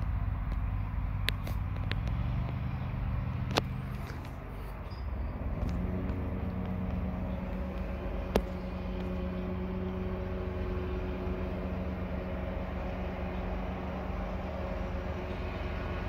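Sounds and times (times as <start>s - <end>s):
distant riding lawn mower engine: 0.0s - 16.0s.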